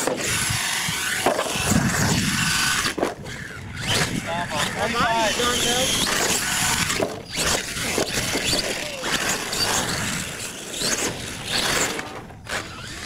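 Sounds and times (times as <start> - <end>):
toy truck motor whining: 0.0 - 13.0.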